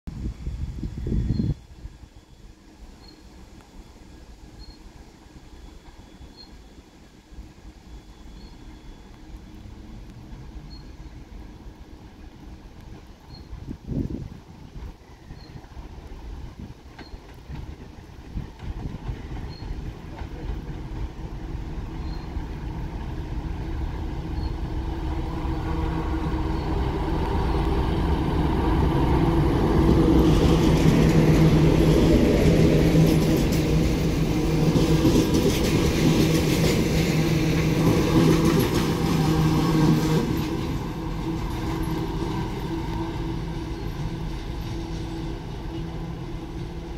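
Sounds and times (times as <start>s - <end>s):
diesel locomotive engine drone: 0.1s - 46.9s
train coaches rumbling on rails: 0.1s - 46.9s.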